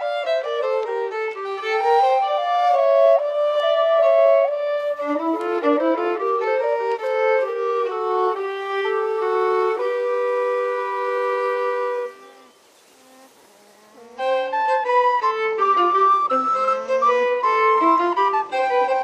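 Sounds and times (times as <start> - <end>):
violin music: 0.0 - 19.0.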